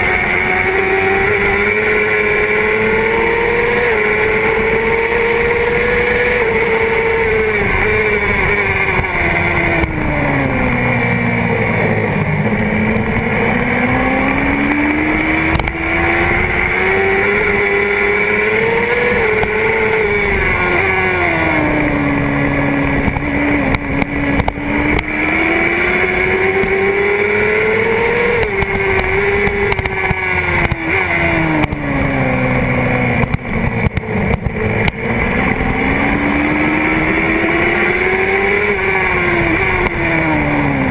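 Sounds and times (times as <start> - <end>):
motorcycle engine at racing speed: 0.0 - 40.9.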